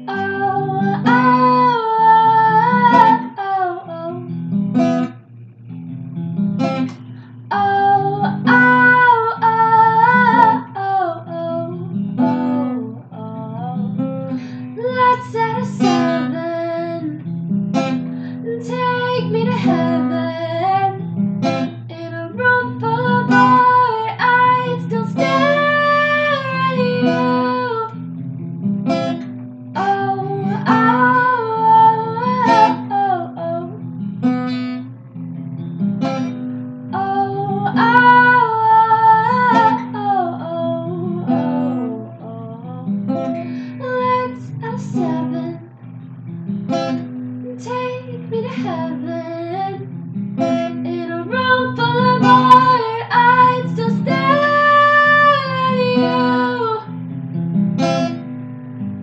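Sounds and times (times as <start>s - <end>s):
woman singing: 0.0s - 5.2s, 6.6s - 28.1s, 28.8s - 35.2s, 36.9s - 57.0s
strummed acoustic guitar: 0.0s - 59.0s.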